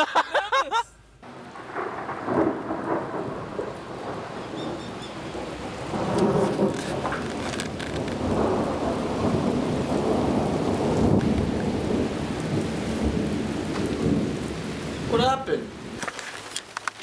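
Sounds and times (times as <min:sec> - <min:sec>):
heavy rain on street: 0:01.2 - 0:17.0.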